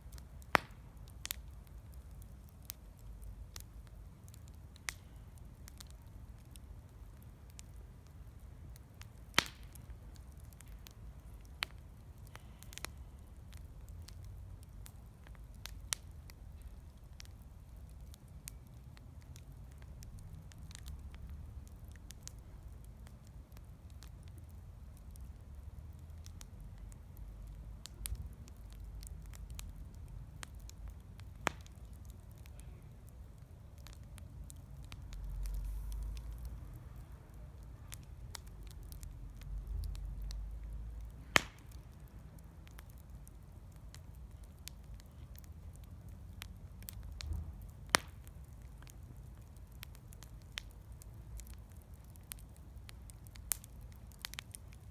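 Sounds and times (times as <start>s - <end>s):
bonfire crackling: 0.0s - 54.9s.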